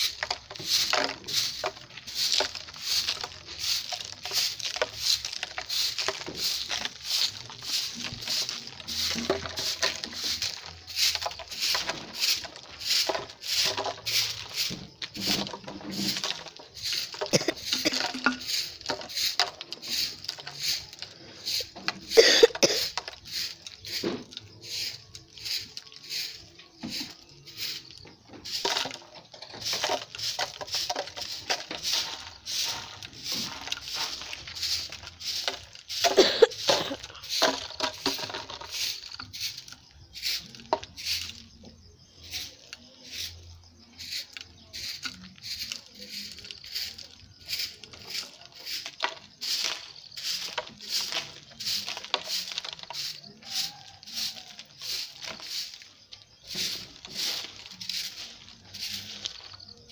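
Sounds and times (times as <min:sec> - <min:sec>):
broom sweeping dirt: 0:00.0 - 0:59.9.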